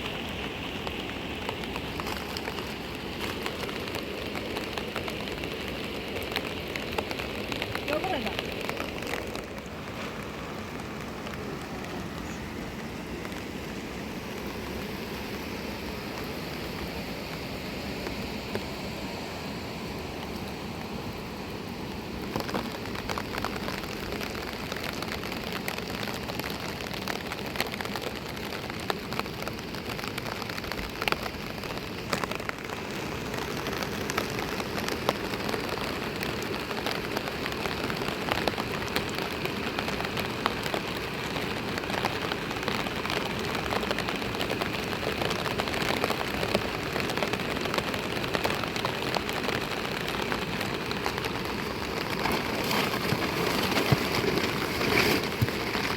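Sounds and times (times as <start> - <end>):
raindrops striking a surface: 0.0 - 55.9
steady rain falling: 0.0 - 55.9.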